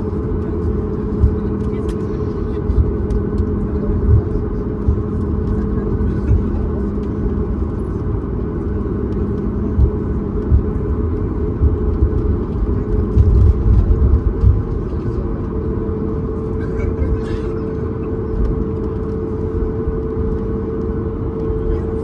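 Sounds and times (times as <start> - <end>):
aircraft engine hum: 0.0 - 22.0.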